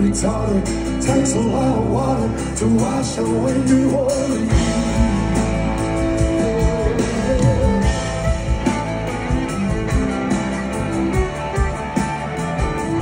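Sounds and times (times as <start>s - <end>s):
drums: 0.0s - 13.0s
guitars: 0.0s - 13.0s.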